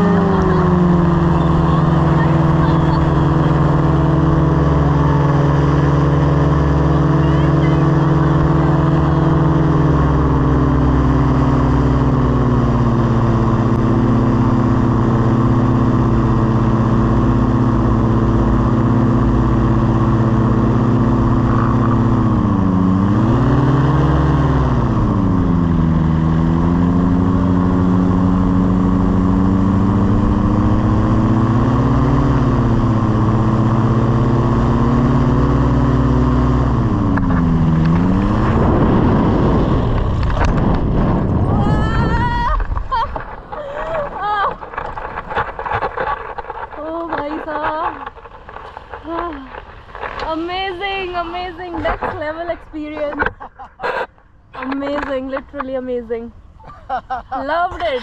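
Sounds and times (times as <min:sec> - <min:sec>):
propeller aircraft engine: 0:00.0 - 0:58.0.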